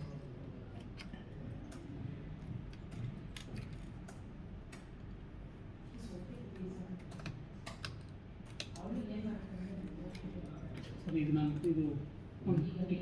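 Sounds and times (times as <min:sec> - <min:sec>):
low room murmur: 0:00.0 - 0:13.0.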